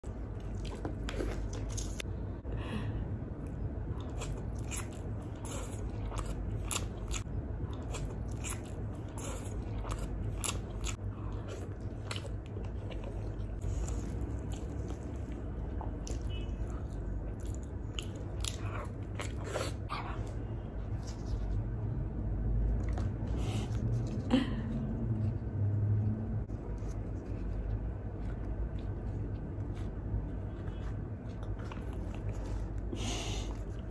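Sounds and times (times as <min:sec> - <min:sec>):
person chewing food: 0:00.0 - 0:02.1, 0:03.3 - 0:21.6, 0:26.5 - 0:33.9.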